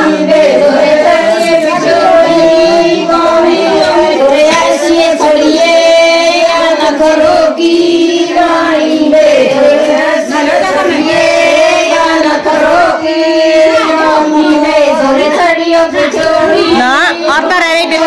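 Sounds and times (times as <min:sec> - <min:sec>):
women singing long notes: 0:00.0 - 0:18.0.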